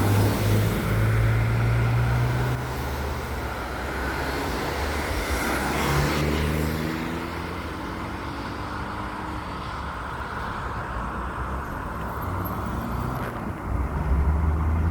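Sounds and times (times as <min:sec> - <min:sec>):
tyre and traffic noise: 0:00.0 - 0:14.9.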